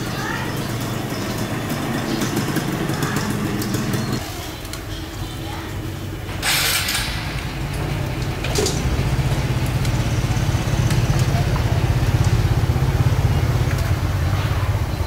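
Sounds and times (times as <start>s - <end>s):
small engine idling: 0.0s - 4.2s, 6.4s - 15.0s.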